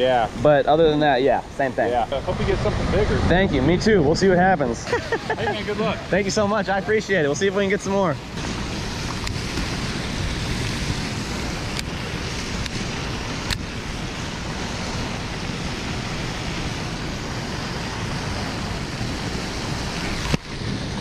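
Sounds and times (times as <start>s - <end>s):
fountain water splashing: 0.0s - 21.0s
wind buffeting microphone: 0.0s - 21.0s.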